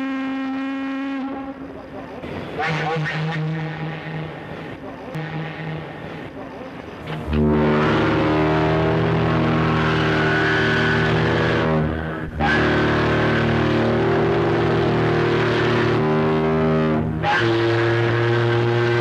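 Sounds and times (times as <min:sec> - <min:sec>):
ship's horn blasts: 0:00.0 - 0:19.0.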